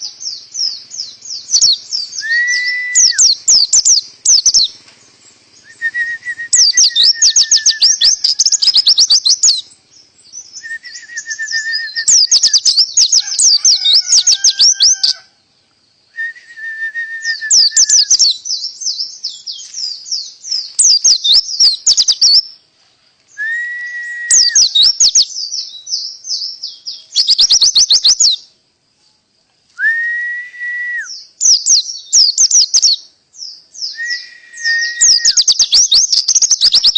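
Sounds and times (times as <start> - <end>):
bird singing fast trills: 0.0 - 22.7, 23.3 - 28.6, 31.0 - 36.9.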